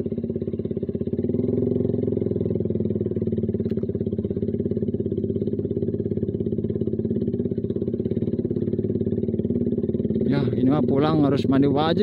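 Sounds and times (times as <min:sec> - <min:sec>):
motorcycle engine pulsing exhaust: 0:00.0 - 0:12.0.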